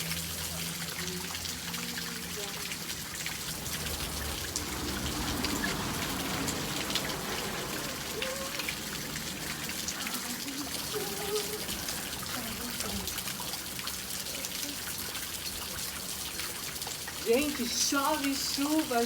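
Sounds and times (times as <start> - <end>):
raindrops ticking on surfaces: 0.0 - 19.0
steady rain falling: 0.0 - 19.0.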